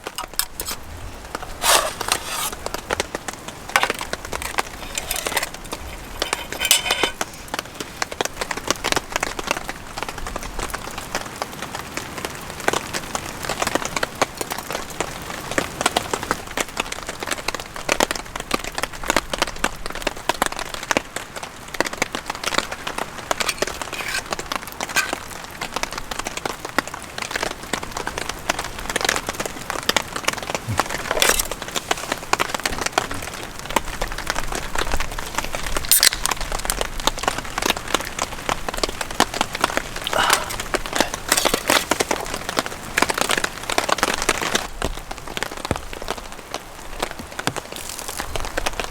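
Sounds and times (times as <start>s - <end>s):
raindrops ticking on a surface: 7.2s - 23.0s, 25.3s - 48.9s.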